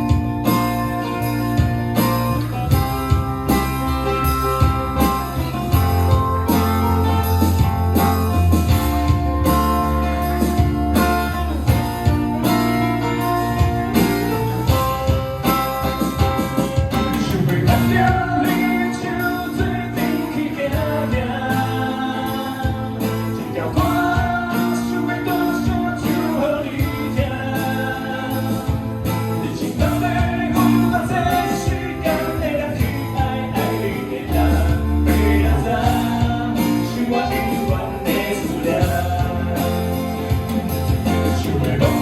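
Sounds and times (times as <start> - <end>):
live rock band playing: 0.0 - 42.0
melodic lead guitar line: 0.0 - 42.0.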